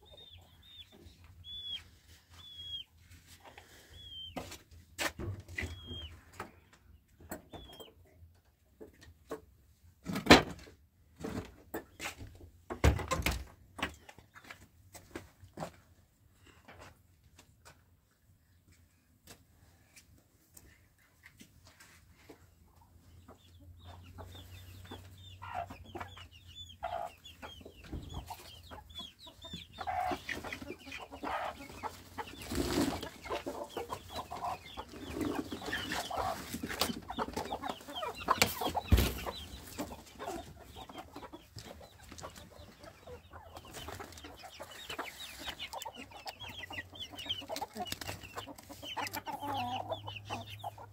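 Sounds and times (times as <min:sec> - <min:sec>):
chickens clucking and cheeping: 0:00.0 - 0:50.9.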